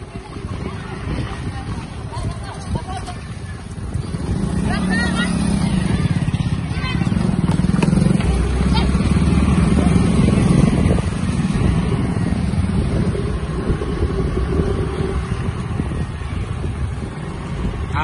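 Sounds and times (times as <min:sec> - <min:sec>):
scooter engine running: 0:00.0 - 0:18.0
wind on microphone: 0:00.0 - 0:18.0.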